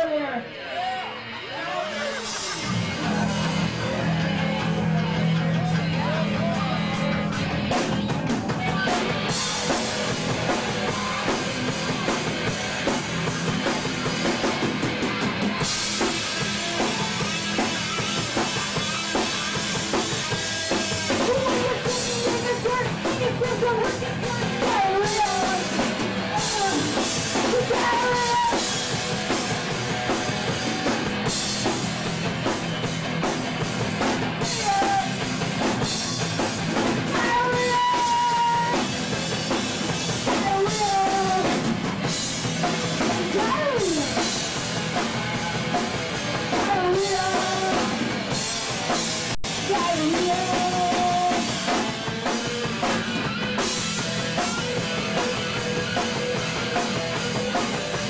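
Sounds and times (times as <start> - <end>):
bass guitar: 0.0 - 58.0
loud electric guitar: 0.0 - 58.0
punk rock band playing live: 0.0 - 58.0
drum kit: 1.8 - 58.0.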